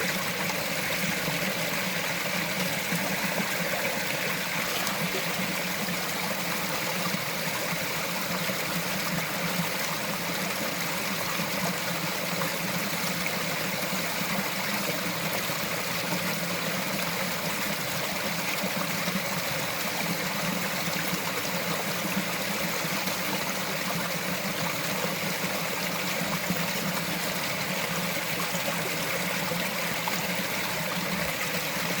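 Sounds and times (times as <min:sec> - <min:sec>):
stream flowing over rocks: 0:00.0 - 0:32.0.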